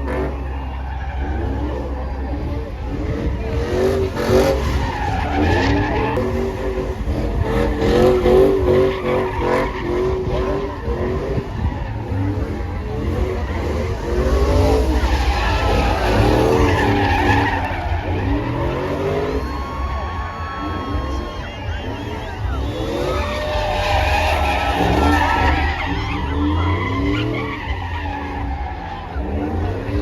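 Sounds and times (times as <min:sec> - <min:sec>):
truck engine revving hard: 0:00.0 - 0:30.0
tyres squealing and skidding: 0:00.0 - 0:30.0.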